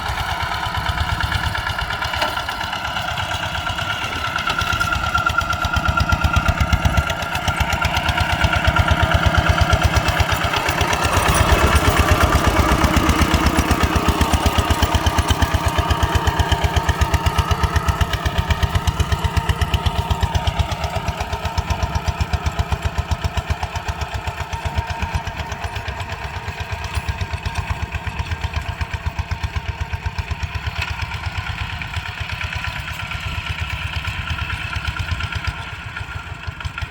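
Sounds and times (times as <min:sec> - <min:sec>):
tractor diesel engine chugging: 0:00.0 - 0:36.9.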